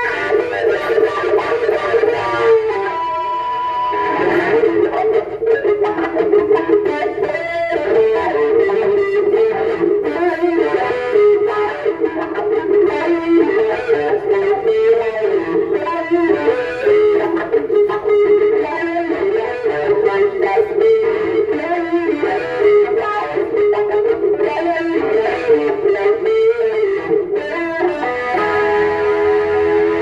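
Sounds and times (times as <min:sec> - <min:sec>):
electric guitar lead line: 0:00.0 - 0:30.0.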